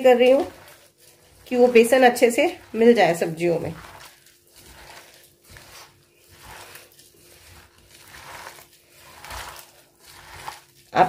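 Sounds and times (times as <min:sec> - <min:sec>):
hands squeezing batter in bowl: 0:00.0 - 0:11.0.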